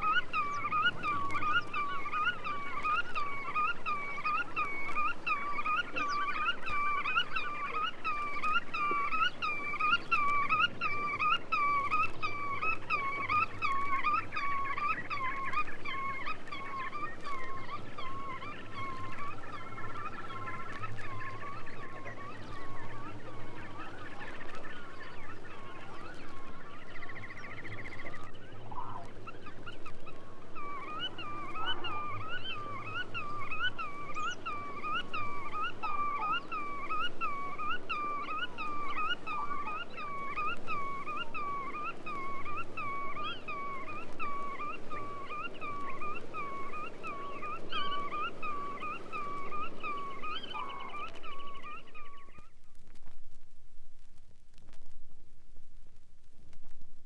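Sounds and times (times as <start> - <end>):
bird trill: 0.0 - 52.5
godwit nasal calls: 0.0 - 52.5.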